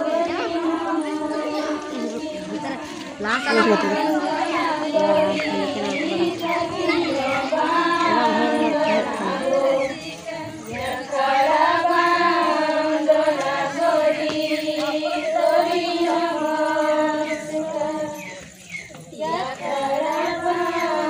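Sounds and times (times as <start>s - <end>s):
women singing in unison: 0.0s - 21.0s.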